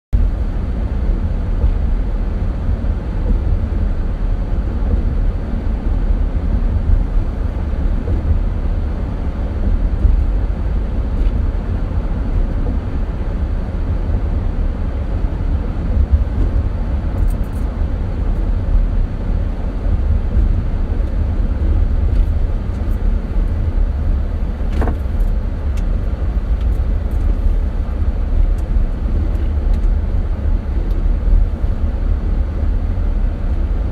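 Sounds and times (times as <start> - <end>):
car tyres rumbling on bumpy road: 0.2 - 33.9.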